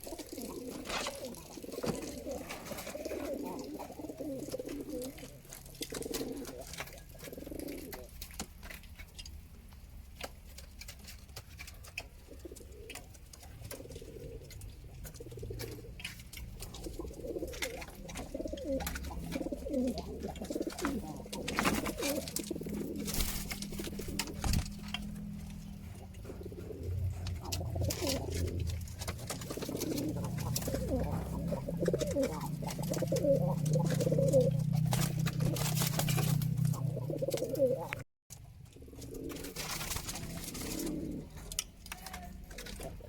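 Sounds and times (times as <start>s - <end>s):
pigeons cooing: 0.0s - 9.4s, 10.1s - 38.0s, 38.6s - 43.0s.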